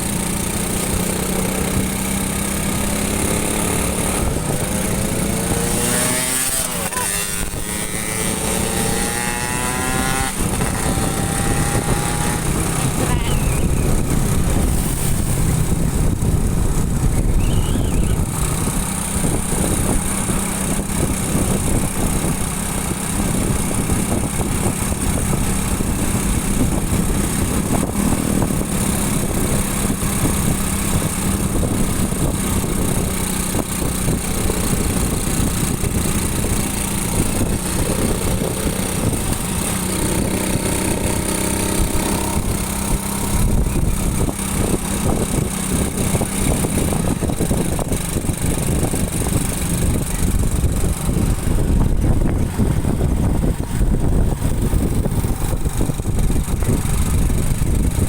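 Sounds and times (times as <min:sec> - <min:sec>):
motorcycle engine running: 0:00.0 - 0:58.0
second higher engine: 0:00.0 - 0:58.0
wind on microphone: 0:00.0 - 0:58.0.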